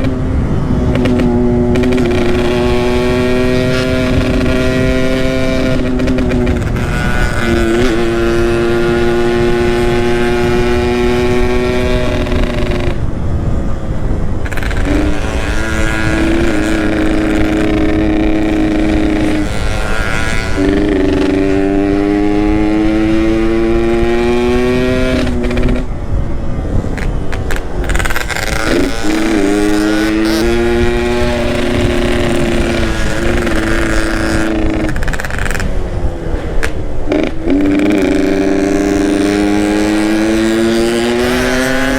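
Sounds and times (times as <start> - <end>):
two-stroke motorcycle engine pulling: 0.0 - 41.9
wind rumble on microphone: 0.0 - 41.9.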